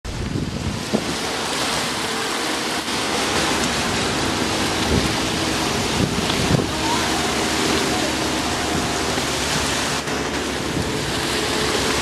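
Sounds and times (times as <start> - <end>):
rushing water: 0.0 - 12.0
wind buffeting the microphone: 0.1 - 12.0
faint engine hum: 0.7 - 12.0.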